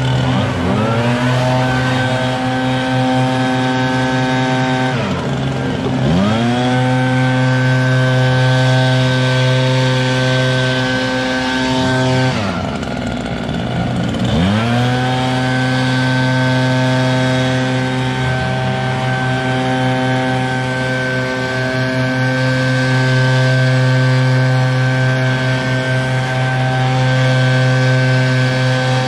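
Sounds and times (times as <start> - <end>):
leaf blower engine at full throttle: 0.0 - 29.0.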